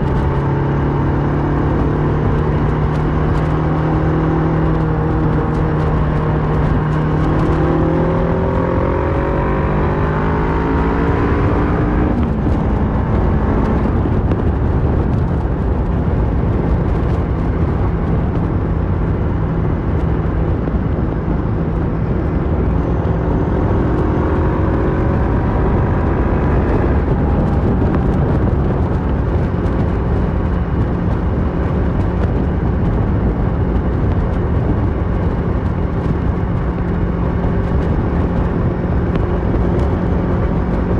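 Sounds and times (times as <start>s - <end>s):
motorcycle engine accelerating: 0.0s - 40.9s
wind rushing noise: 0.0s - 40.9s.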